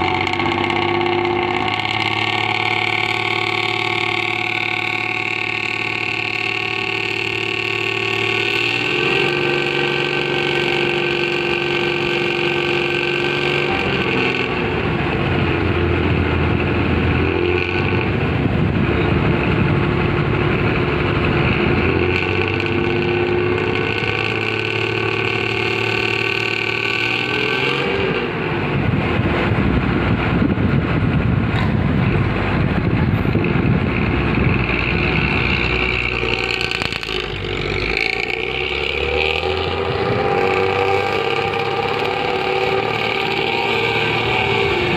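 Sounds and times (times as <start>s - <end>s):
rough snoring exhaust growl: 0.0s - 29.8s, 32.2s - 44.9s
bus diesel engine running: 0.0s - 44.9s.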